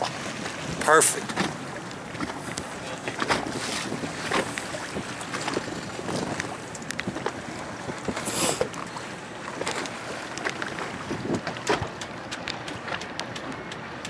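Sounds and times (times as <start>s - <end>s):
water around a boat: 0.0s - 14.0s
wind: 0.0s - 14.0s.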